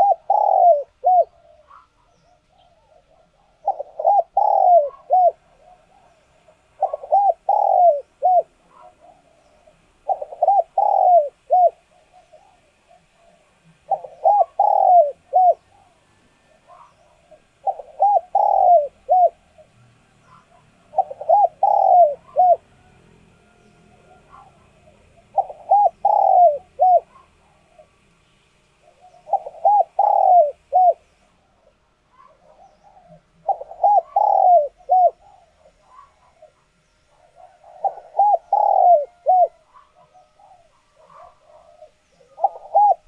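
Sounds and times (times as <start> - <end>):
dove cooing: 0.0 - 28.0, 28.8 - 43.0.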